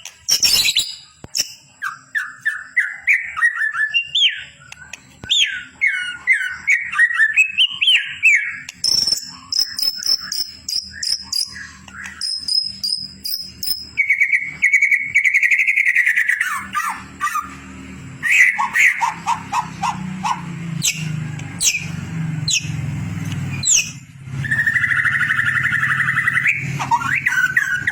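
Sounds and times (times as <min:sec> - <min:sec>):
songbird whistling and trilling: 0:00.0 - 0:27.9.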